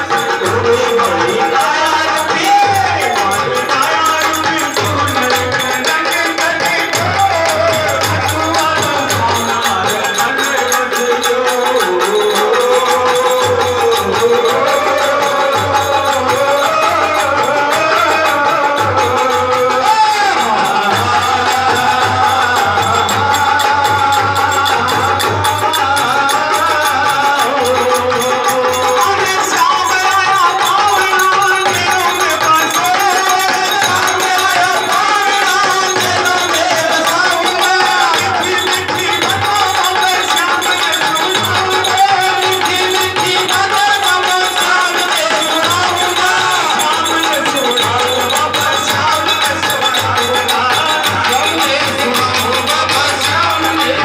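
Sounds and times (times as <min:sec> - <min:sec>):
hand percussion: 0:00.0 - 0:54.0
harmonium melody: 0:00.0 - 0:54.0.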